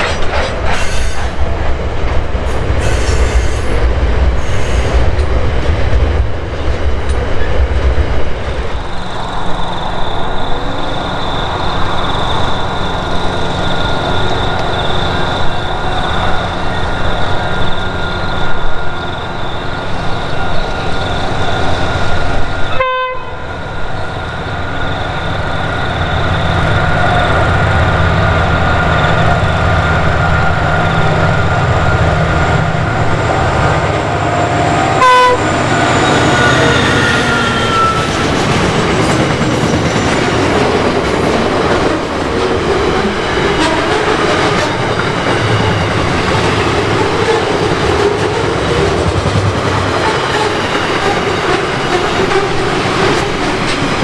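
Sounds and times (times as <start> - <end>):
locomotive engines rumbling: 0.0 - 54.0.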